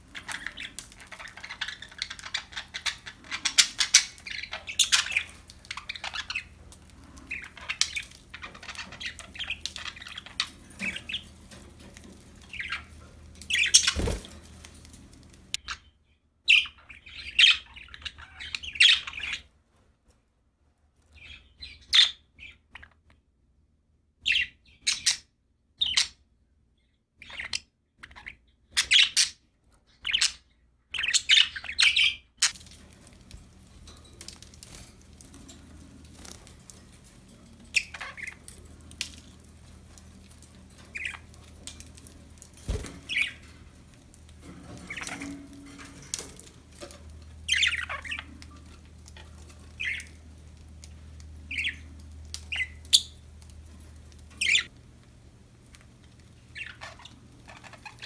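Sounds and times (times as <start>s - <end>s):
budgerigars chirping and warbling: 0.0s - 15.9s, 16.5s - 19.5s, 21.2s - 23.0s, 24.2s - 26.2s, 27.2s - 54.8s, 56.0s - 58.0s.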